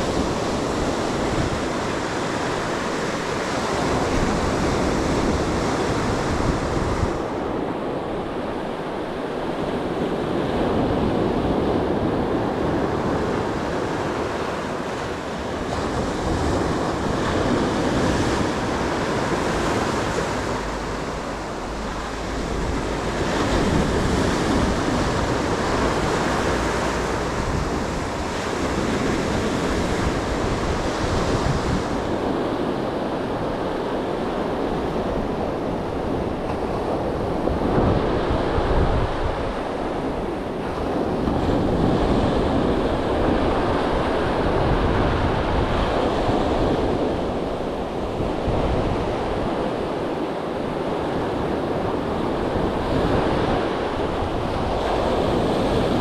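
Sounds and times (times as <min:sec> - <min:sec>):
surf washing onto shore: 0:00.0 - 0:56.0
wind rumbling on microphone: 0:00.0 - 0:56.0.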